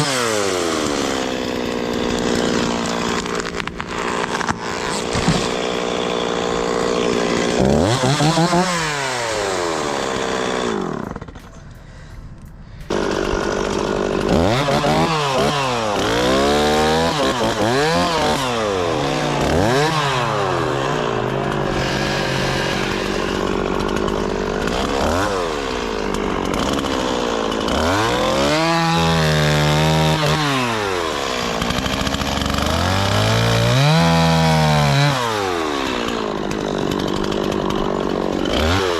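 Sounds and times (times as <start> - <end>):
chainsaw revving: 0.0 - 11.5, 12.9 - 38.9.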